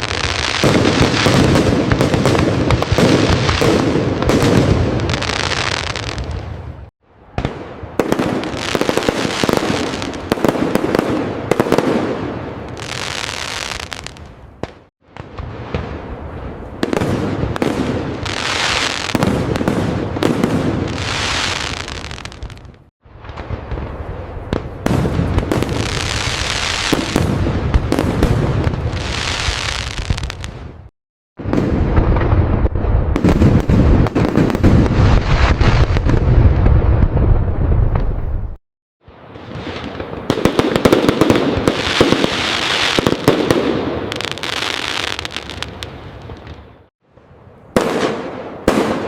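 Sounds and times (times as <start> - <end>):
fireworks crackling and popping: 0.0 - 46.9, 47.7 - 49.0
fireworks bangs and booms: 0.0 - 49.0.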